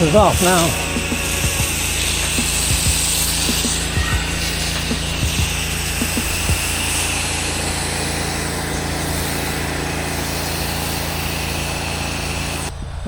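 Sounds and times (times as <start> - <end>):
high-pressure water spray hiss: 0.0 - 13.0
pressure washer engine running: 0.0 - 13.0.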